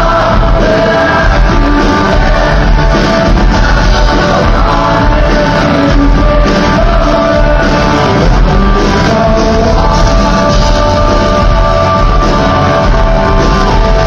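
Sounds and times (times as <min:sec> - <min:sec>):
live rock band playing: 0:00.0 - 0:14.0
man singing: 0:00.0 - 0:14.0.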